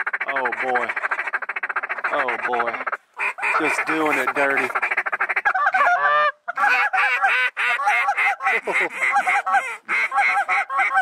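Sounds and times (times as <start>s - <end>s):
goose calls honking and clucking: 0.0s - 11.0s.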